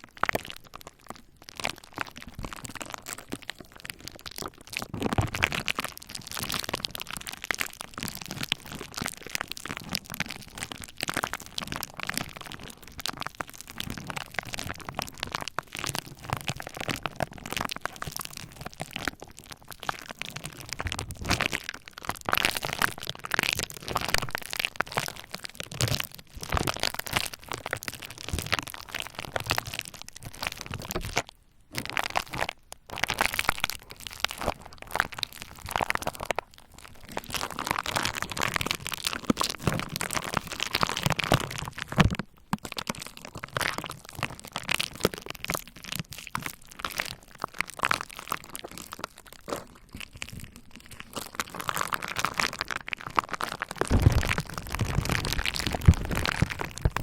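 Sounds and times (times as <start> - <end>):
bubble wrap popping: 2.0 - 57.0.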